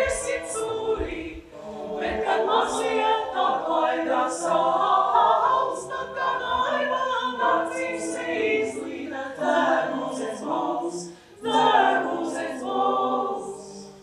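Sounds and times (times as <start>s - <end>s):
mixed choir singing a cappella: 0.0s - 14.0s.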